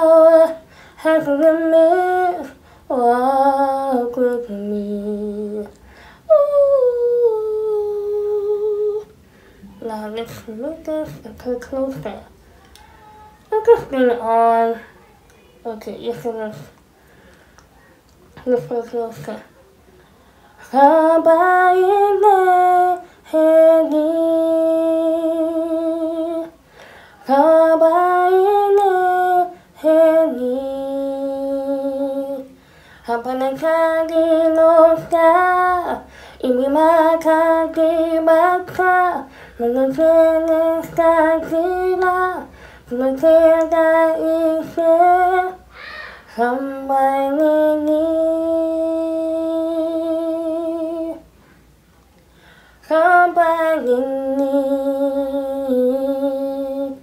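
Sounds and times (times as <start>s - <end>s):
woman singing wordless melody: 0.0s - 17.3s, 18.0s - 19.6s, 20.3s - 51.4s, 52.6s - 57.0s.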